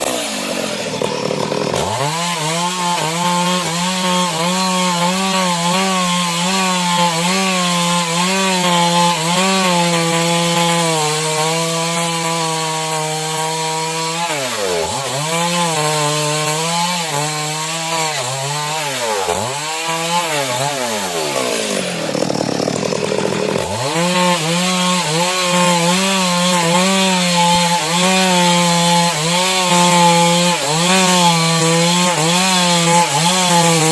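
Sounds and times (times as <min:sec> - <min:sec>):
chainsaw cutting log: 0:00.0 - 0:33.9.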